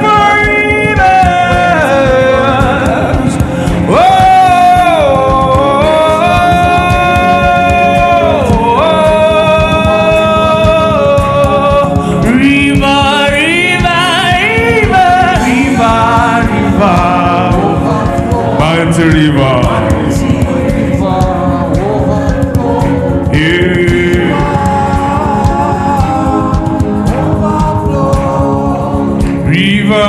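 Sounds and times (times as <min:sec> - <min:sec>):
gospel singing with instruments: 0:00.0 - 0:30.0.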